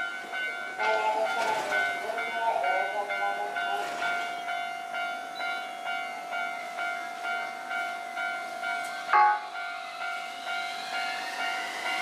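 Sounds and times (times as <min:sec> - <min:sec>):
level-crossing alarm clanging: 0:00.0 - 0:12.0.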